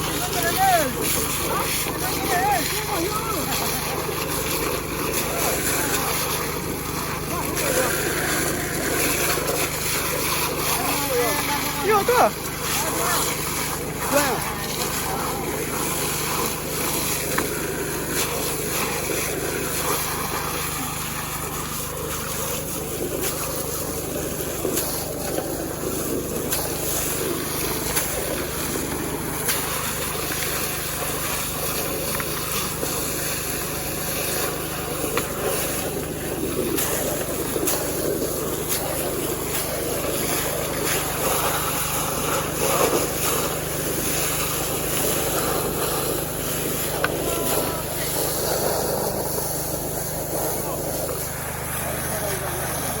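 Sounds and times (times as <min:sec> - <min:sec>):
small petrol engine running: 0:00.0 - 0:53.0.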